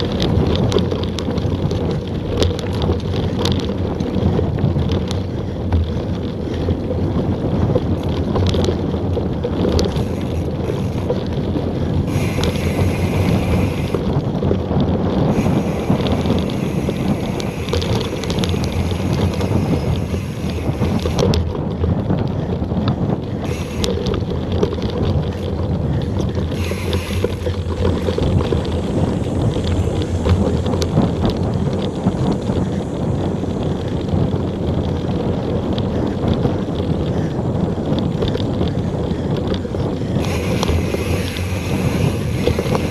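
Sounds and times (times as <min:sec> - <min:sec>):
bike rattles and clicks: 0:00.0 - 0:42.9
tyres rumbling on dirt: 0:00.0 - 0:42.9
wind buffeting microphone: 0:00.0 - 0:42.9.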